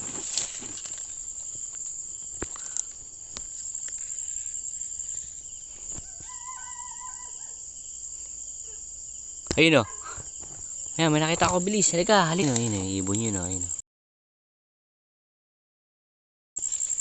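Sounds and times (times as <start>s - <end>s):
crickets and night insects chirping: 0.0s - 13.8s, 16.6s - 17.0s.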